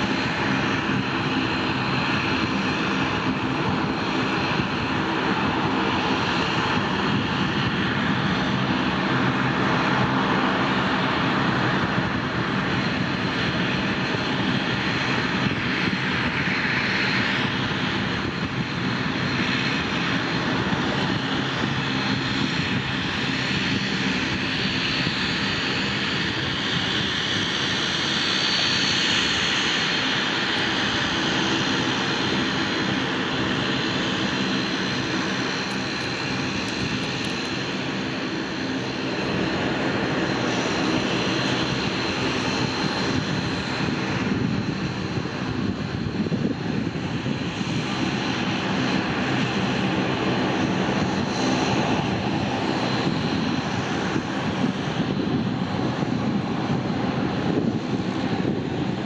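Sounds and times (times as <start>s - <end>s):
airliner engines running: 0.0s - 59.0s.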